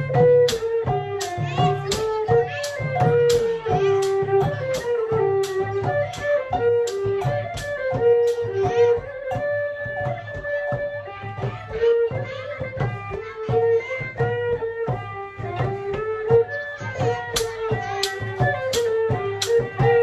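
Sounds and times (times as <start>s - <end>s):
cymbal and drum beat: 0.0s - 20.0s
held stepping melody: 0.0s - 20.0s.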